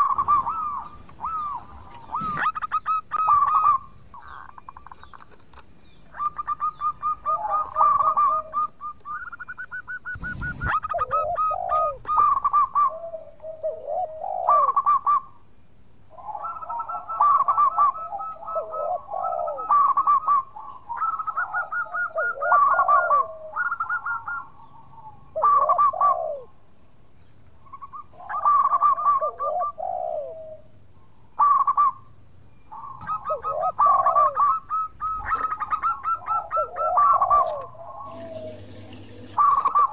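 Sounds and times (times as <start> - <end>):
dove cooing: 0.0 - 15.4, 16.1 - 26.6, 27.7 - 32.0, 32.7 - 39.9.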